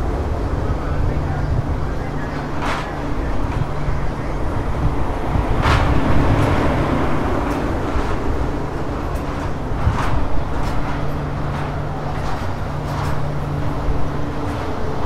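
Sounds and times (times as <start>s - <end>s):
train engine idling hum: 0.0s - 15.0s.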